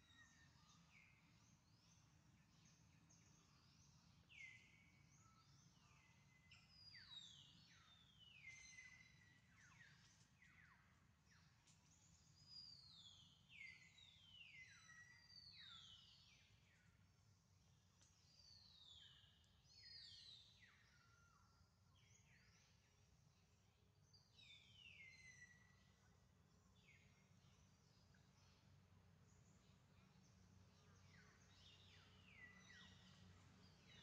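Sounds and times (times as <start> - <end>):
low steady background noise: 0.0 - 34.0.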